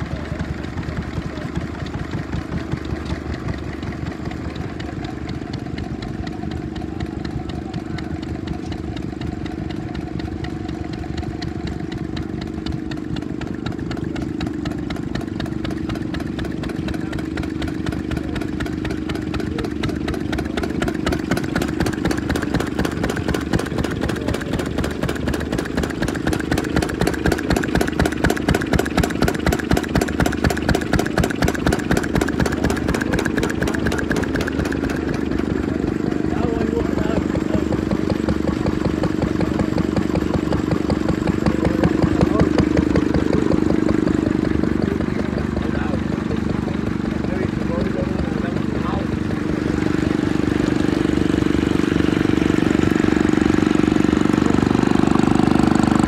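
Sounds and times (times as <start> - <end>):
stationary engines chugging: 0.0 - 56.0.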